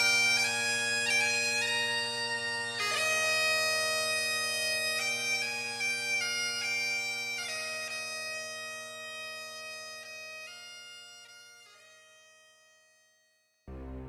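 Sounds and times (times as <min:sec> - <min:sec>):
bagpipes playing: 0:00.0 - 0:14.0.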